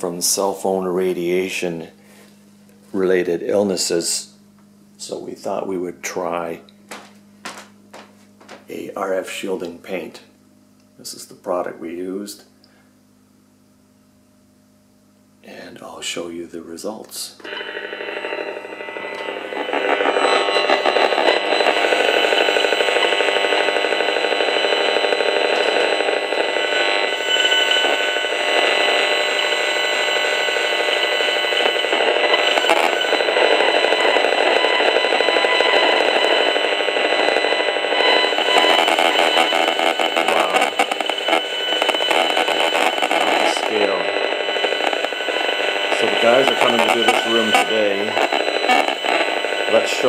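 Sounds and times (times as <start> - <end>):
rapid buzzing chatter from meter: 0.0 - 50.0.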